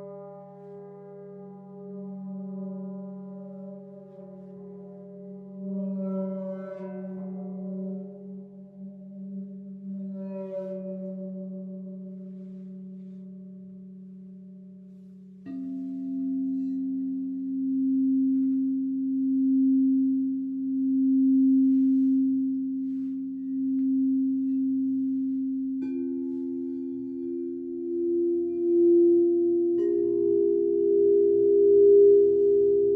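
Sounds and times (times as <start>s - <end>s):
crystal singing bowls ringing: 0.0s - 32.9s.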